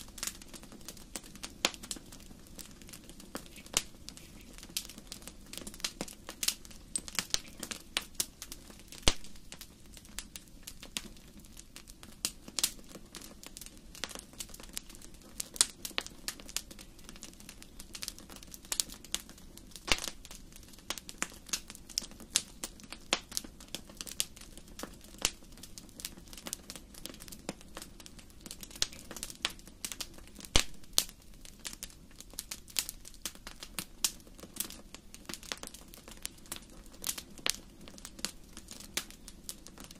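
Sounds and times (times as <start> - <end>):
burning fire rumble: 0.0 - 39.9
fire crackling: 0.0 - 39.9.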